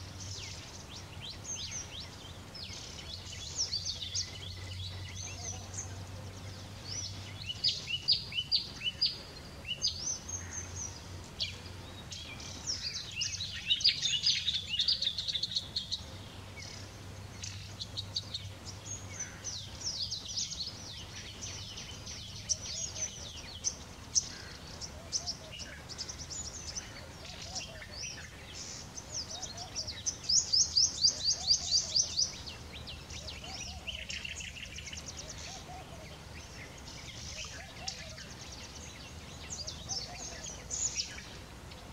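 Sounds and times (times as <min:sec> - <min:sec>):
songbirds calling: 0:00.0 - 0:41.9.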